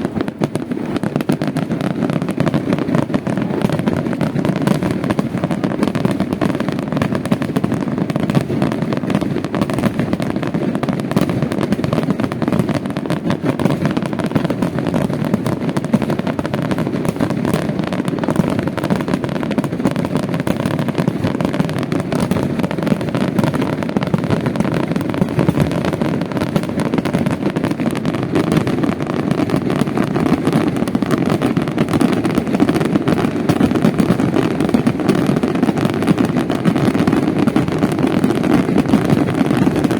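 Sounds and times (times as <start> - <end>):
fireworks bursts and crackles: 0.0 - 39.9.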